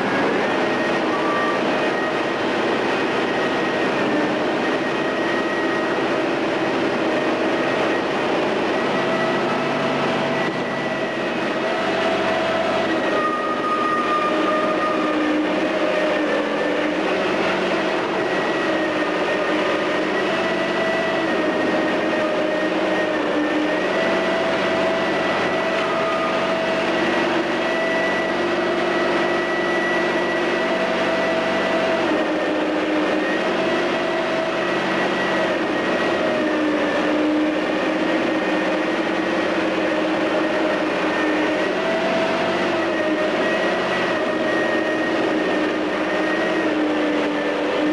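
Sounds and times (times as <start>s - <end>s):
excavator diesel engine under load: 0.0s - 47.9s.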